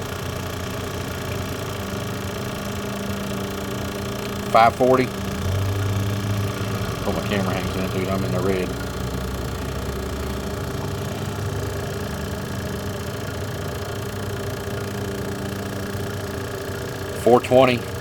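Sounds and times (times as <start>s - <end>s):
vacuum pump mechanical drone: 0.0s - 18.0s.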